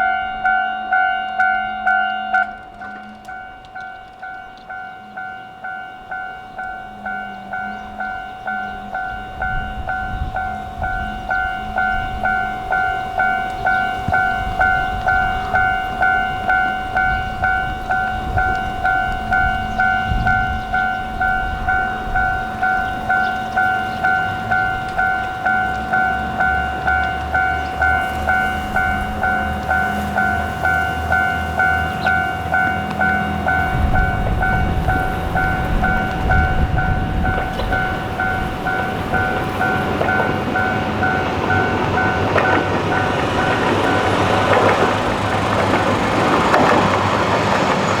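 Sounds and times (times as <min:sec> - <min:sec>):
diesel railcar engine and wheels rumbling: 0:00.0 - 0:48.0
level crossing alarm dinging: 0:00.0 - 0:48.0.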